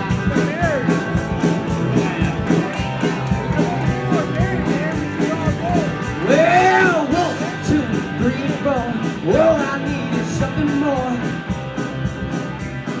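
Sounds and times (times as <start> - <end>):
bending lead guitar line: 0.0 - 13.0
rock band playing: 0.0 - 13.0.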